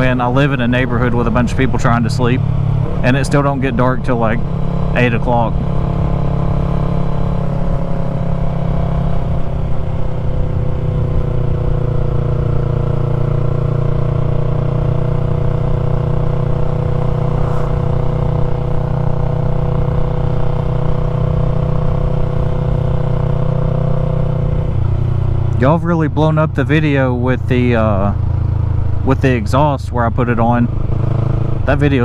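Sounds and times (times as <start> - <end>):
motorcycle engine cruising: 0.0 - 32.0.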